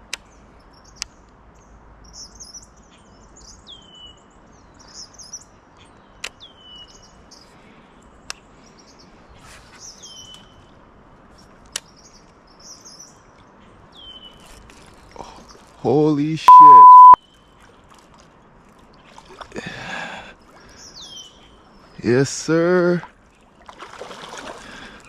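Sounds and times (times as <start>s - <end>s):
songbirds singing: 0.0s - 17.9s, 19.0s - 25.0s.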